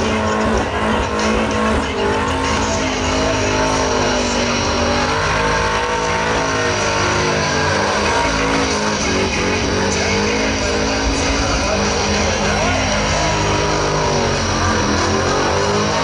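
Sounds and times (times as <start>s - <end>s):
engine at high revs: 0.0s - 16.0s
tyres spinning and squealing: 0.0s - 16.0s.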